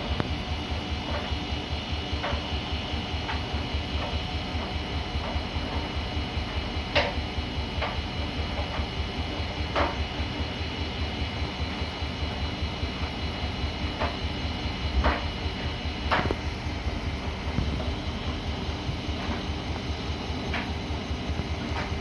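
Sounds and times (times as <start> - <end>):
washing machine drum drone: 0.0 - 22.0.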